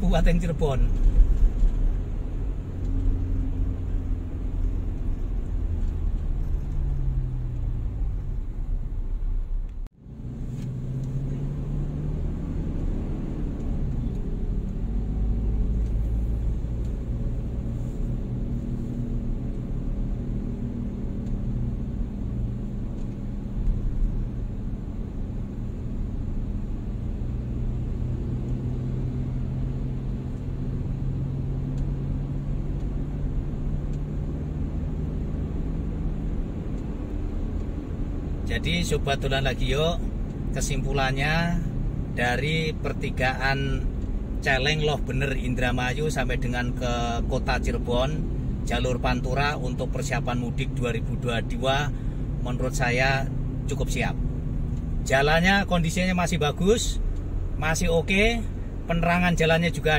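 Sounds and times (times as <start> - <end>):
car engine: 0.0 - 59.9
road rumble: 0.0 - 59.9.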